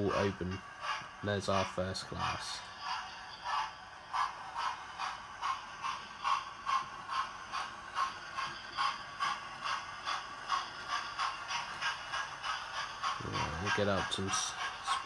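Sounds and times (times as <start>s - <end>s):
model train steam chuffing: 0.0s - 15.0s.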